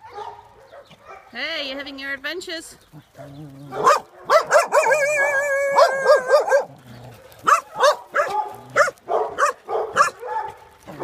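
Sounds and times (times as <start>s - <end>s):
dog barking and yelping: 0.0s - 1.3s, 3.1s - 11.0s.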